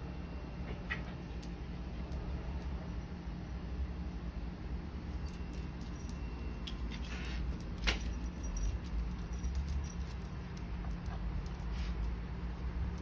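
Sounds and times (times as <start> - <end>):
low steady rumble: 0.0 - 13.0
animals scuffling on concrete: 0.6 - 3.3, 5.0 - 13.0.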